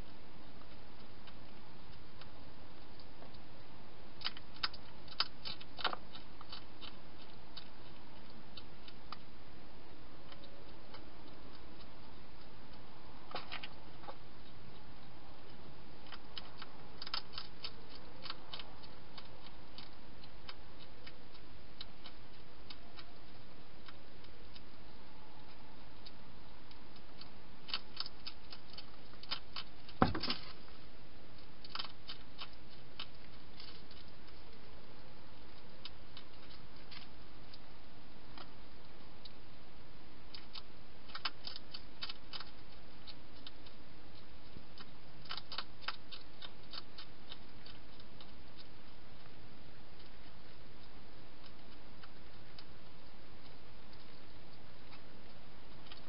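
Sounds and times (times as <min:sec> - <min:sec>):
hedgehog crunching dry food: 0:00.0 - 0:56.0.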